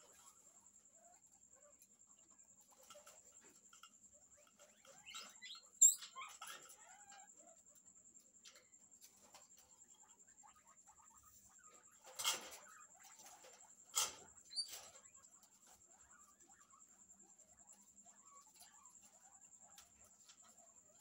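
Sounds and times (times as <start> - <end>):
small squeaks: 0.0 - 7.6, 8.4 - 21.0
guinea pigs scuffling on mesh: 0.0 - 21.0.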